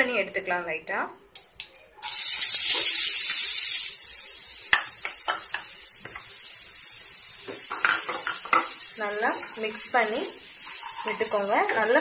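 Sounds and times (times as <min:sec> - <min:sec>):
vegetables sizzling in hot oil: 0:02.0 - 0:12.0.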